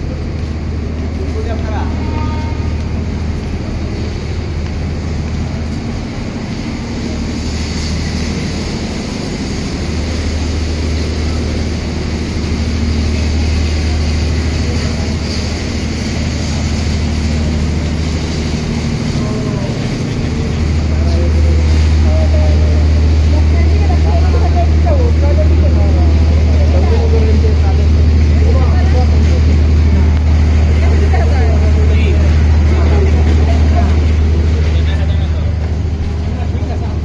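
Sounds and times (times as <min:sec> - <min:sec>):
noisy background: 0:00.0 - 0:37.0
train engine idling drone: 0:00.0 - 0:37.0.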